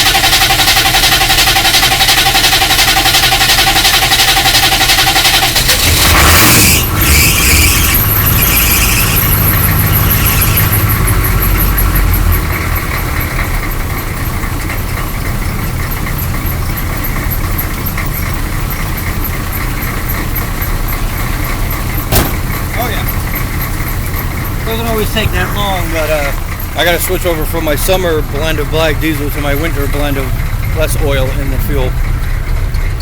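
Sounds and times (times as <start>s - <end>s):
diesel truck engine idling: 0.0s - 33.0s.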